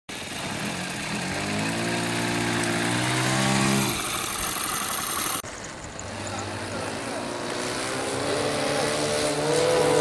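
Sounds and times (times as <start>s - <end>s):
model airplane engine running: 0.1s - 10.0s.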